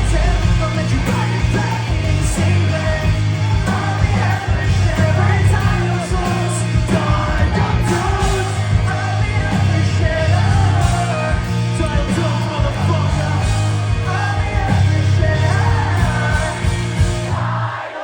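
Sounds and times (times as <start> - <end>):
person singing: 0.0 - 18.0
pop-punk band playing: 0.0 - 18.0.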